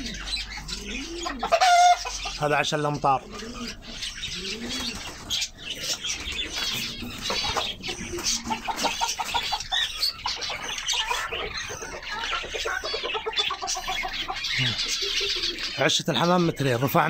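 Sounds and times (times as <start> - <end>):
birds chirping and whistling: 0.0 - 17.0
chicken clucking: 0.0 - 17.0.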